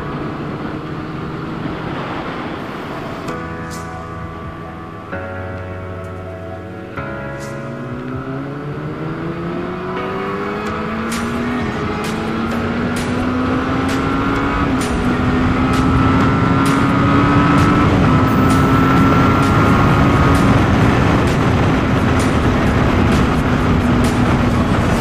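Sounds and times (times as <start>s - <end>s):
motorcycle engine cruising: 0.0s - 3.4s, 7.4s - 25.0s
wind and road noise: 0.0s - 25.0s.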